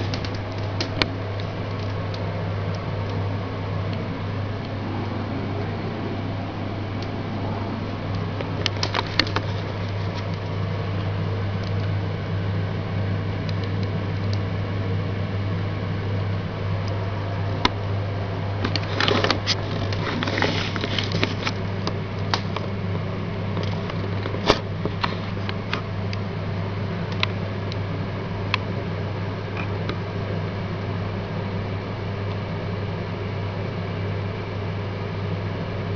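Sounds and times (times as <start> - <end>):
low steady hum: 0.0 - 35.9.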